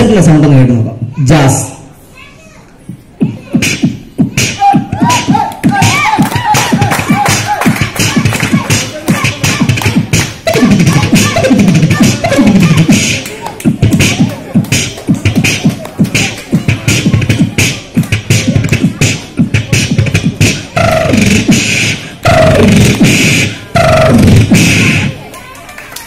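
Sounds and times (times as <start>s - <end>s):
pitched vocal sounds: 3.1s - 25.2s
man beatboxing into microphone: 3.2s - 25.2s.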